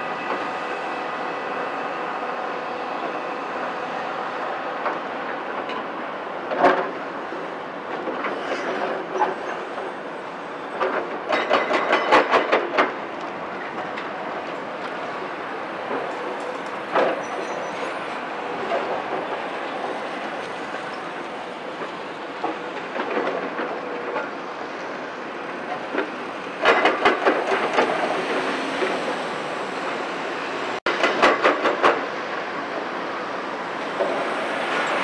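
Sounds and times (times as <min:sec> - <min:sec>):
excavator diesel and hydraulics: 0:00.0 - 0:35.0.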